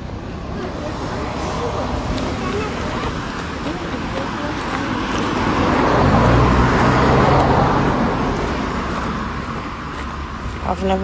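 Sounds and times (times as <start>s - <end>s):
road vehicle driving past: 0.0s - 11.0s.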